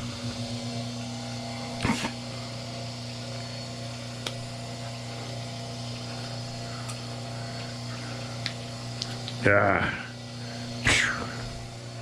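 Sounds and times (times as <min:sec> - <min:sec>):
cable-stripping machine motor hum: 0:00.0 - 0:12.0.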